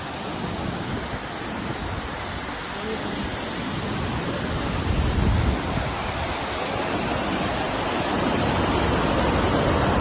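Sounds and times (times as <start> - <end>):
waterfall rushing: 0.0 - 10.0
wind buffeting microphone: 0.0 - 10.0.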